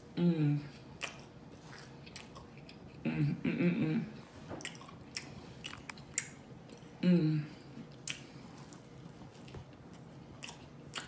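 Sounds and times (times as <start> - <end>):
person chewing pizza: 0.7 - 3.1, 4.2 - 11.0.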